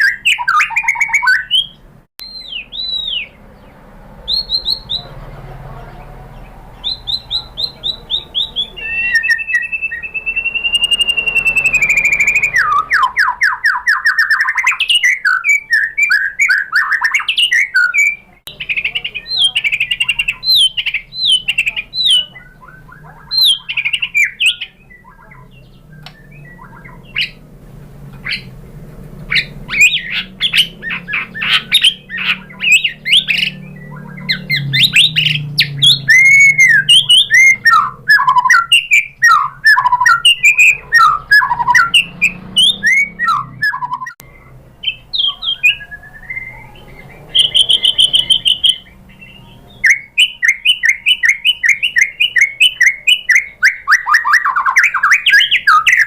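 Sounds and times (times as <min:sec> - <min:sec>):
bird singing whistled song: 0:00.0 - 0:05.1, 0:06.3 - 0:27.4, 0:28.2 - 0:28.5, 0:29.2 - 0:56.0.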